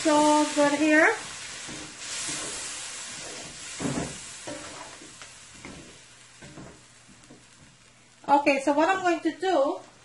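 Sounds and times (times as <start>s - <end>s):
potatoes sizzling in pot: 0.0s - 10.0s.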